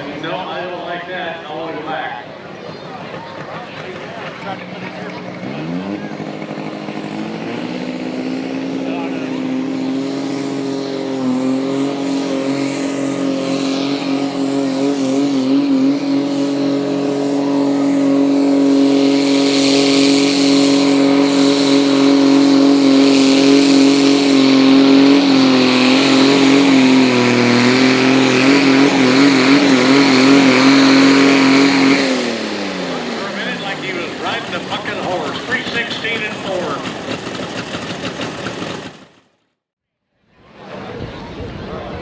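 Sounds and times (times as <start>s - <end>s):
diesel tractor engine at full throttle: 0.0s - 39.5s.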